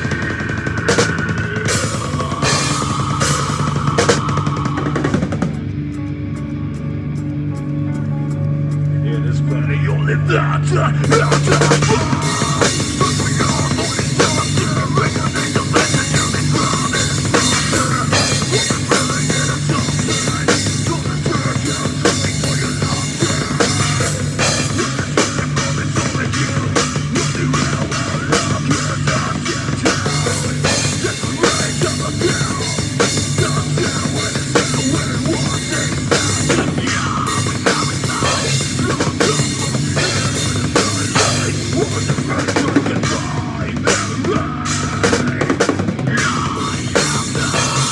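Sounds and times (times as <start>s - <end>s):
drum kit played hard: 0.0s - 5.8s, 11.0s - 47.9s
rock band playing: 0.0s - 47.9s.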